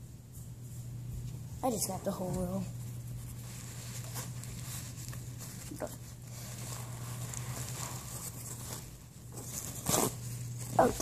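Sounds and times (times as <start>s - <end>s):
low steady hum: 0.0s - 11.0s
paper towel rustling: 0.4s - 11.0s.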